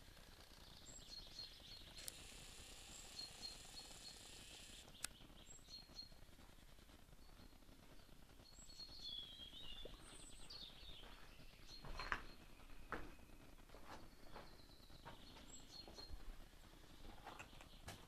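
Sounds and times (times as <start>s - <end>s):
faint bird chirps: 0.3s - 6.3s, 7.1s - 18.0s.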